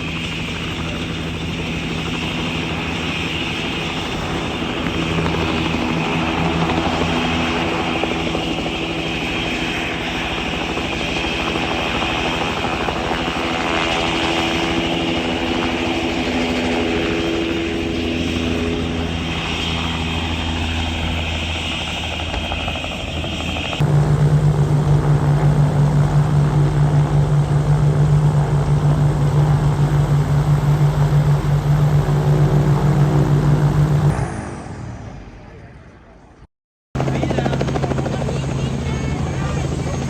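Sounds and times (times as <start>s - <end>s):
helicopter rotor hum: 0.0s - 36.4s, 37.0s - 40.0s.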